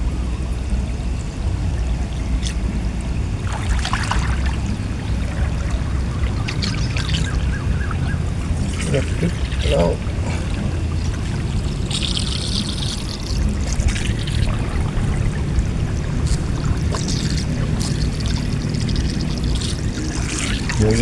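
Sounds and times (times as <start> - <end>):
steady low rumble: 0.0 - 21.0
water splashing and trickling: 0.6 - 21.0
rush of water: 1.6 - 21.0.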